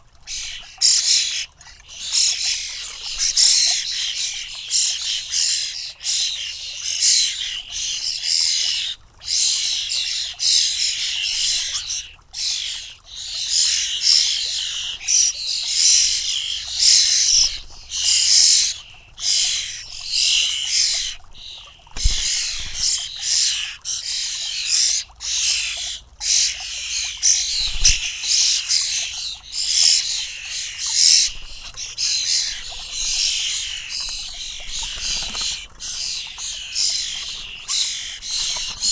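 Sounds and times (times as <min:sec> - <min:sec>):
fledgling birds hissing begging calls: 0:00.3 - 0:38.9.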